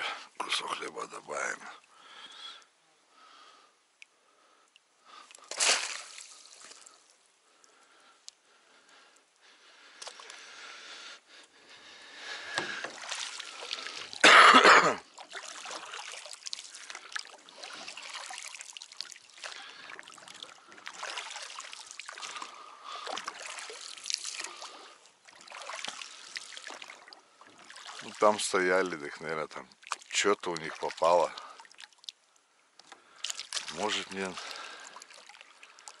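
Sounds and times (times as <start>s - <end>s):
water sloshing and trickling: 0.0s - 36.0s.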